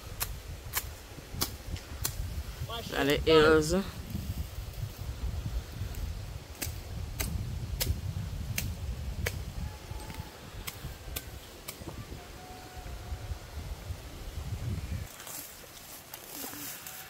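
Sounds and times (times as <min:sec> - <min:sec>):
wind rumble on microphone: 0:00.0 - 0:15.2.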